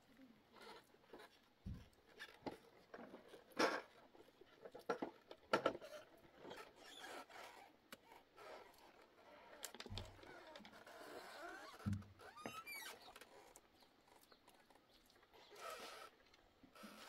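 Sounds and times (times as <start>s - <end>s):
light clicks knocks and scrapes: 0.5s - 17.0s.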